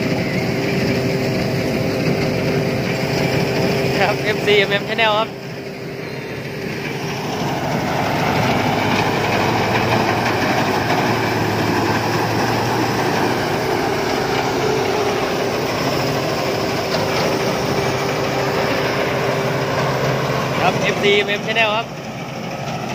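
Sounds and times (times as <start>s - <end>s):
combine harvester droning: 0.0s - 22.9s.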